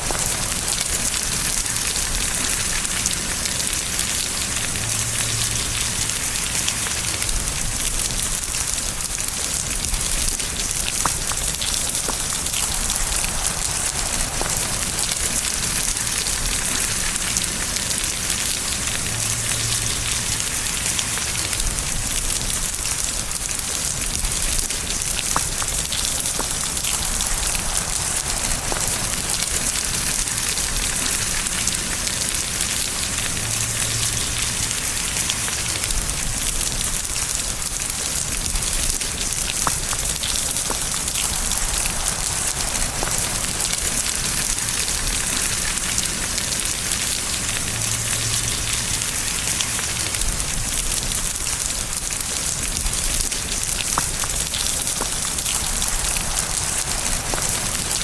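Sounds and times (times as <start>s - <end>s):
raindrop ticks: 0.0s - 58.0s
steady rain hiss: 0.0s - 58.0s.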